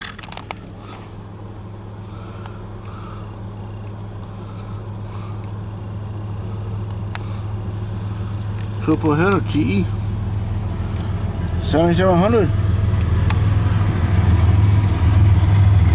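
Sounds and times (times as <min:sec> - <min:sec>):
diesel locomotive engine drone: 0:00.0 - 0:15.9.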